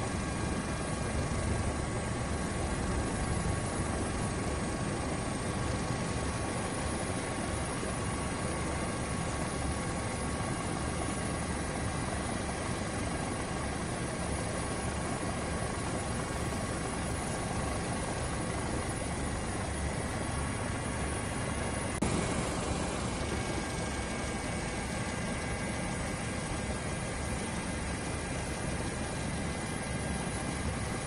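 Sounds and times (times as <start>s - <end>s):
helicopter rotor and engine: 0.0s - 31.0s.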